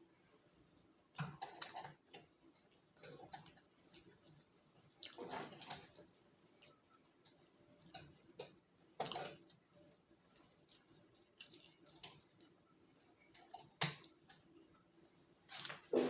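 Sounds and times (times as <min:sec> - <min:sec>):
person chewing food: 0:01.3 - 0:14.6.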